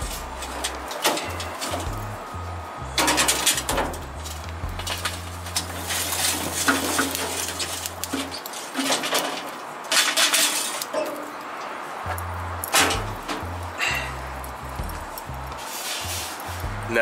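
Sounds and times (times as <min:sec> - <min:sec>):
charcoal clinking and tumbling: 0:00.0 - 0:17.0.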